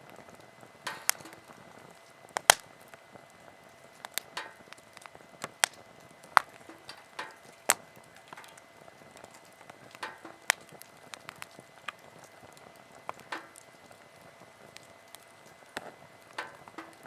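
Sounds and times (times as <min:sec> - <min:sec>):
wood bonfire crackling and popping: 0:00.0 - 0:17.0.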